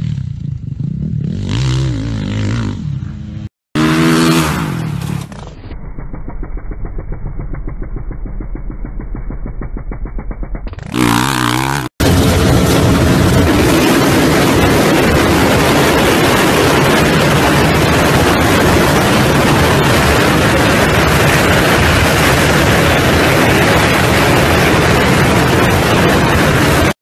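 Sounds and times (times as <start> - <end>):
dirt bike engines: 0.0 - 27.0.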